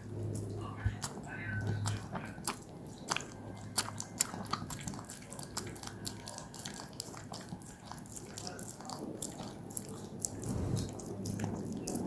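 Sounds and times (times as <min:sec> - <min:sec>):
dog chewing strawberries: 0:00.0 - 0:12.0.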